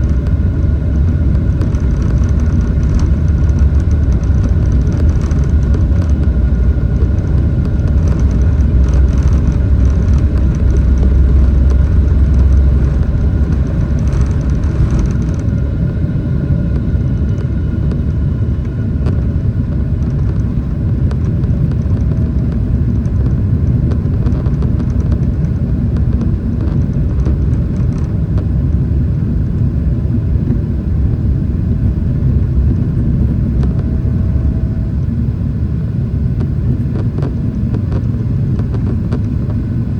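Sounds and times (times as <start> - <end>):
faint engine whine: 0.0 - 39.9
jet engines rumbling: 0.0 - 39.9.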